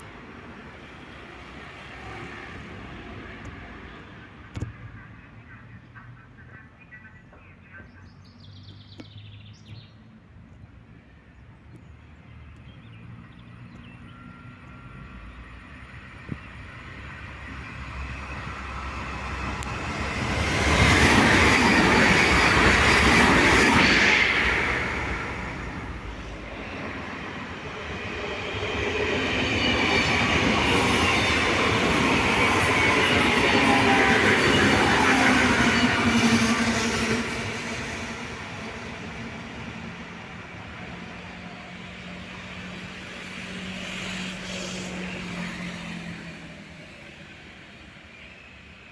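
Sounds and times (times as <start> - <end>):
train rail noise: 0.0 - 7.5, 10.7 - 48.9.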